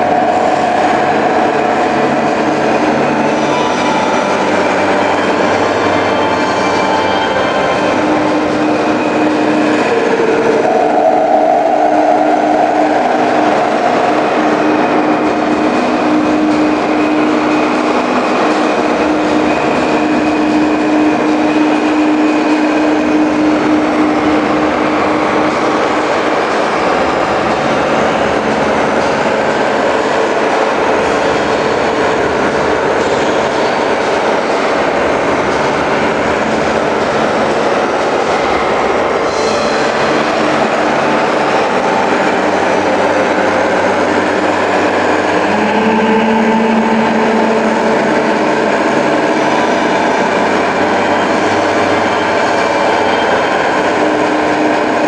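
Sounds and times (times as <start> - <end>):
humming tone: 0.0 - 55.0
loud vehicle engine noise: 0.0 - 55.0.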